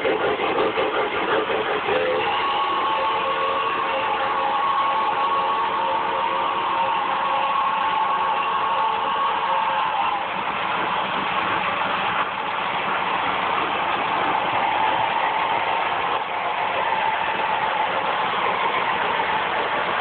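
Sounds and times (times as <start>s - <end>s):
model train whirring: 0.0s - 20.0s.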